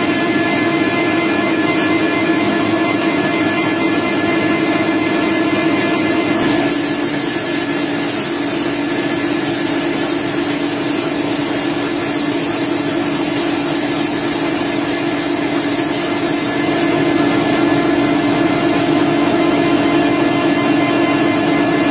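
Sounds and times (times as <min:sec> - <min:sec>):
factory machinery low hum: 0:00.0 - 0:21.9.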